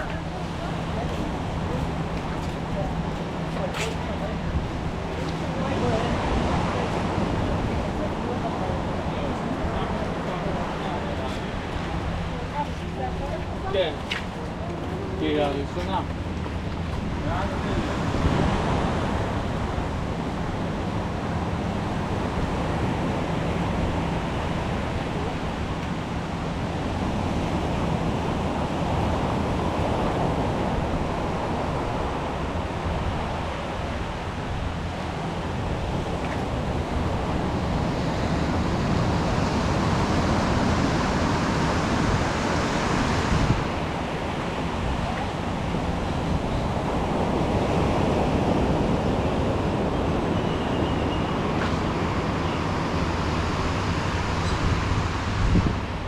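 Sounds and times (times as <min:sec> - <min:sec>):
surf washing onto beach: 0:00.0 - 0:56.0
wind buffeting microphone: 0:00.0 - 0:56.0.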